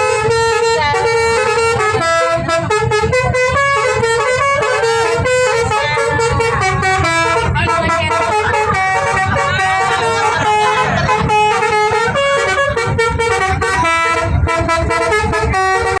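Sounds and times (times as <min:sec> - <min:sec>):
bus engine rumble: 0:00.0 - 0:16.0
multi-tone musical bus horn: 0:00.0 - 0:16.0.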